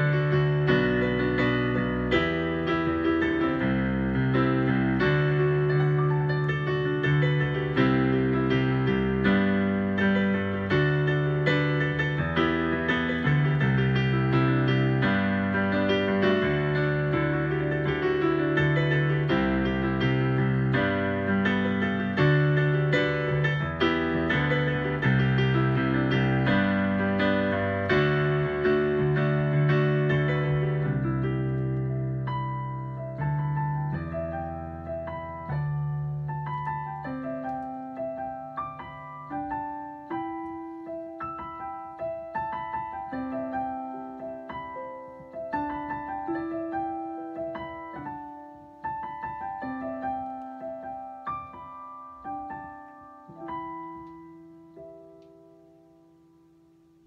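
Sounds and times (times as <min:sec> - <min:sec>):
digital piano playing: 0:00.0 - 0:57.0.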